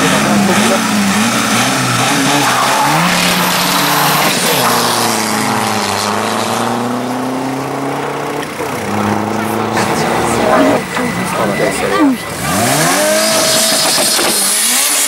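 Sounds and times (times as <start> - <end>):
cars accelerating hard: 0.0 - 15.0.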